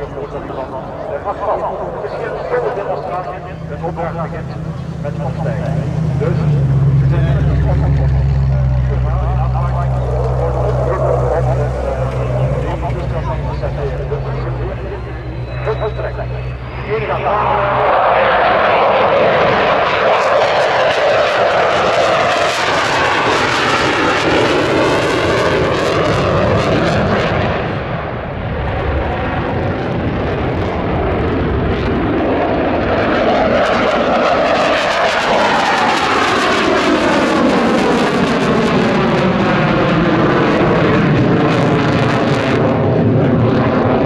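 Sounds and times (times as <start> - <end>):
jet fighter roaring: 0.0 - 44.0.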